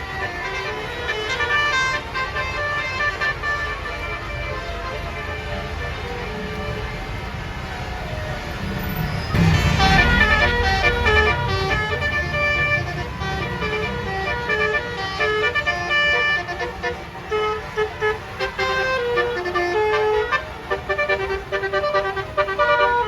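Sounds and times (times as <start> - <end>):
bus horn playing a melody: 0.0 - 7.3, 9.3 - 23.0.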